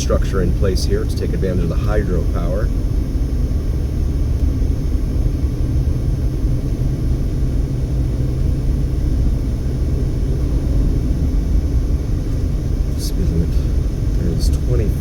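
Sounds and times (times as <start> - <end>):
road and engine noise in car: 0.0 - 15.0.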